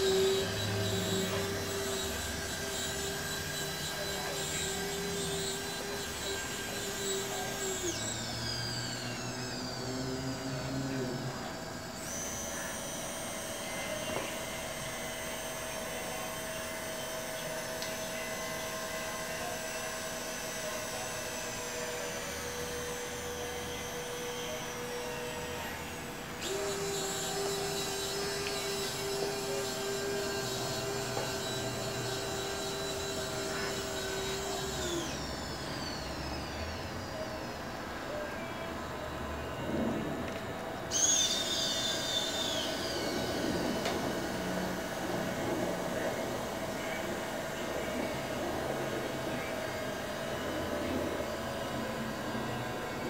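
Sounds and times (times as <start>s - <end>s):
electric gear motors whirring: 0.0s - 53.0s
motor whine: 0.0s - 53.0s.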